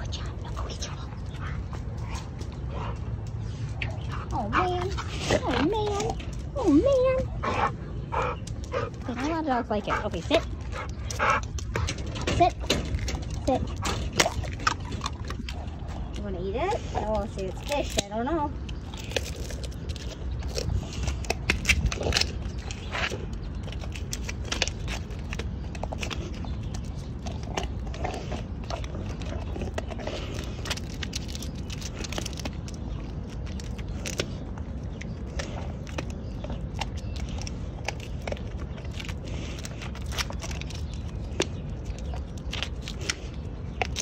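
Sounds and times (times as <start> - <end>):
dog chewing crunchy treat: 0.0 - 44.0
low rumble: 0.0 - 44.0.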